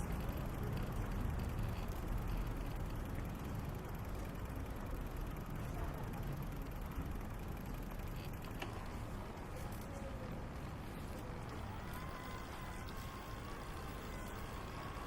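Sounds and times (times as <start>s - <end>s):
city street rumble: 0.0s - 15.0s.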